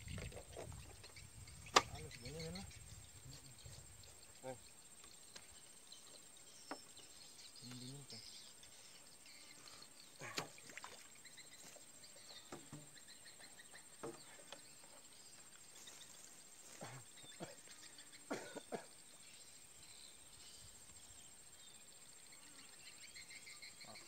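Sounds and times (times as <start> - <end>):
faint bird chirps: 0.0 - 24.0
insects chirring: 0.0 - 24.0.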